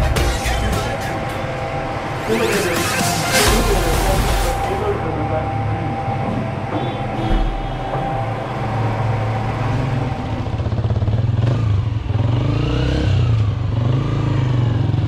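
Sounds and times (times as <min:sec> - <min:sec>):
vehicle engine rumbling: 0:00.0 - 0:14.2.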